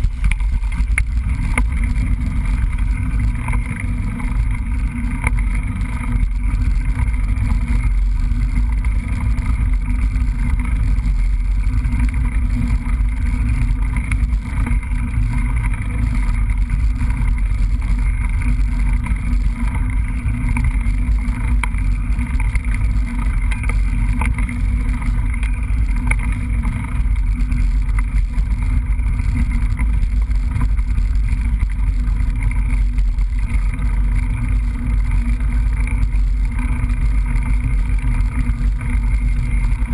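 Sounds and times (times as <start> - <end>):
trail vibration rumble: 0.0 - 39.9.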